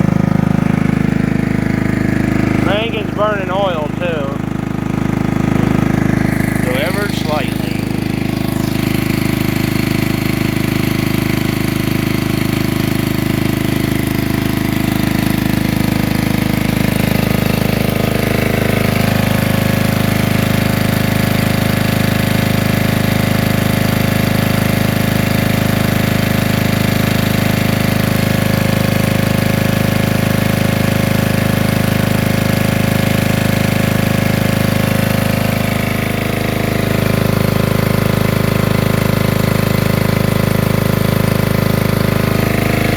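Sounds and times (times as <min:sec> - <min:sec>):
generator engine running: 0:00.0 - 0:42.9.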